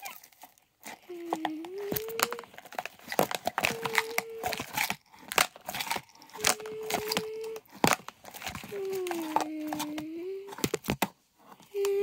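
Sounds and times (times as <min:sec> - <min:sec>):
plastic crinkling and clicking: 0:00.0 - 0:12.0.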